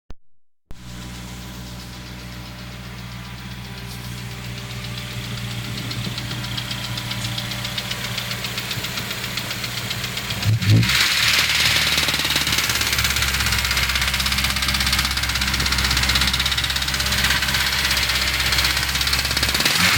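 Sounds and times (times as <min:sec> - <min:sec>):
car engine idling: 0:00.7 - 0:19.9
rapid even engine ticking: 0:00.9 - 0:19.9.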